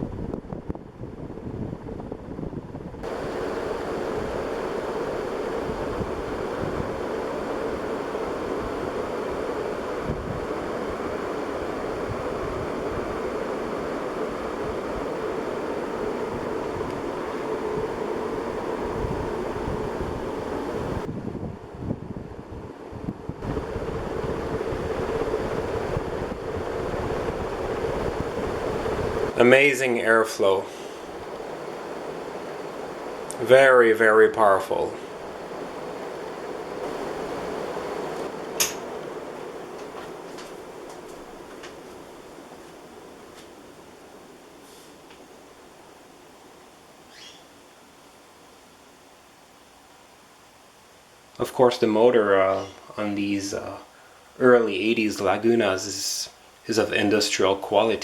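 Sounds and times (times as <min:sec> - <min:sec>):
fan wind buffeting microphone: 0:00.0 - 0:58.0.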